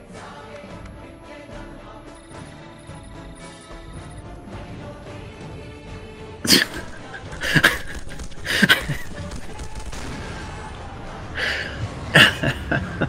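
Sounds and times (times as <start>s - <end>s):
steady background: 0.0s - 13.0s.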